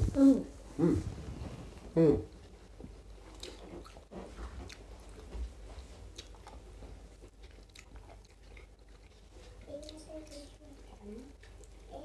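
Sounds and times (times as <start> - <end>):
people chewing food: 0.1 - 12.0.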